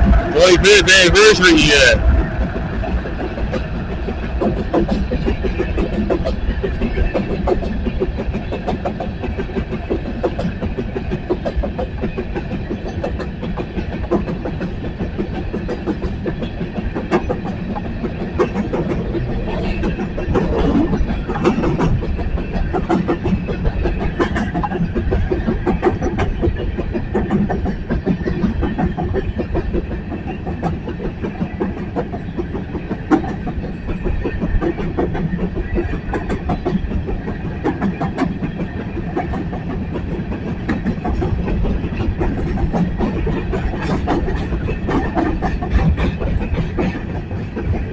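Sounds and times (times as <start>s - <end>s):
train rumble: 0.0s - 47.9s
train wheels clicking on rail joints: 0.0s - 47.9s.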